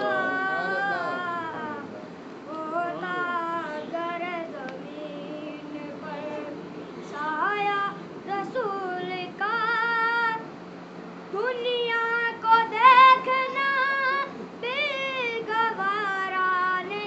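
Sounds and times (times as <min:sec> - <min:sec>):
boy singing: 0:00.0 - 0:01.9, 0:02.5 - 0:10.5, 0:11.3 - 0:17.0.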